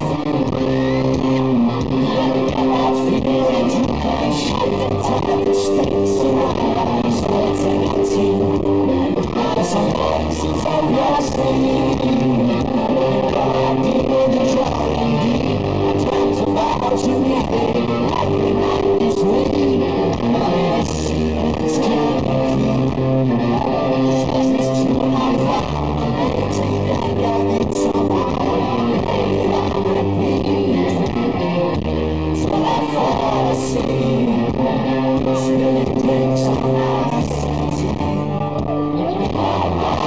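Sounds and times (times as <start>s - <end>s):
heavy electric guitar riff: 0.0s - 40.0s
live rock band playing: 0.0s - 40.0s.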